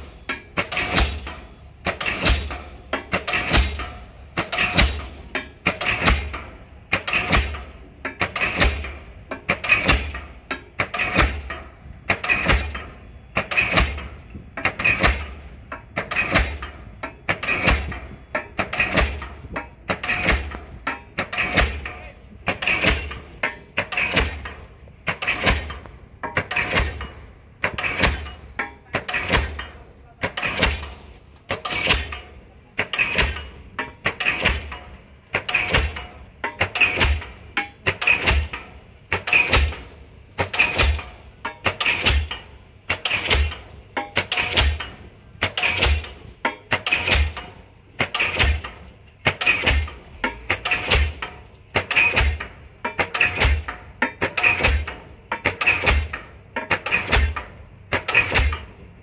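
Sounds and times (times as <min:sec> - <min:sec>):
pile hammer metallic blows: 0:00.0 - 0:59.0.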